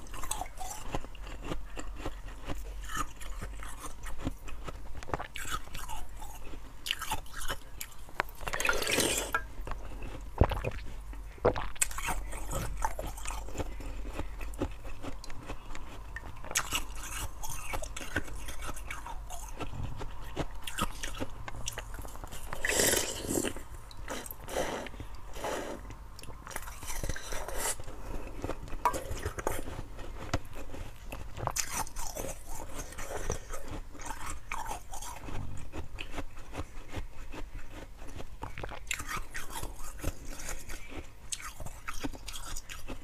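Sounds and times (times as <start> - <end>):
ice being chewed crunching: 0.0 - 43.0.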